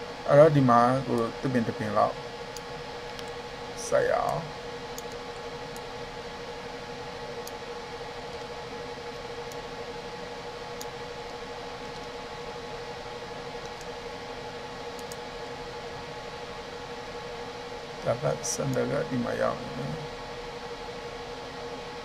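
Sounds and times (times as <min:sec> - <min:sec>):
background hum and hiss: 0:00.0 - 0:22.0.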